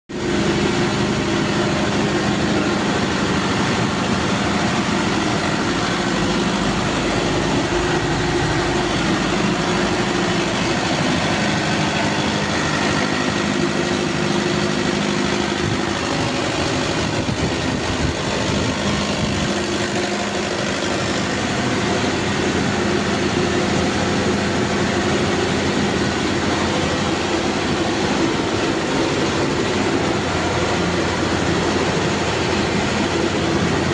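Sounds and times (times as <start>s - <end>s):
diesel engine running steadily: 0.1s - 33.9s.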